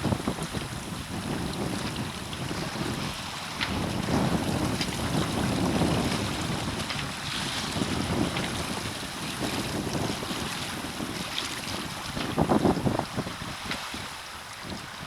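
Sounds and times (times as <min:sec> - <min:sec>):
water washing against boat hull: 0:00.0 - 0:15.0
wind rumbling on microphone: 0:00.0 - 0:15.0.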